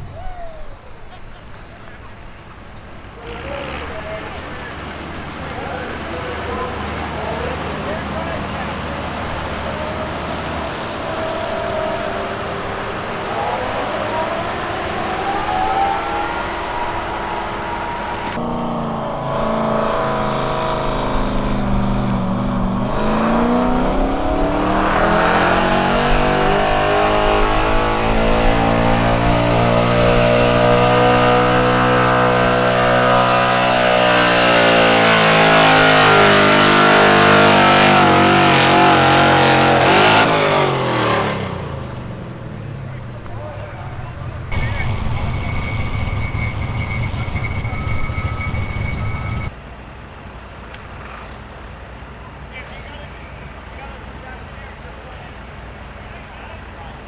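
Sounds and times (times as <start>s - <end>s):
truck engine at full throttle: 0.0s - 57.0s.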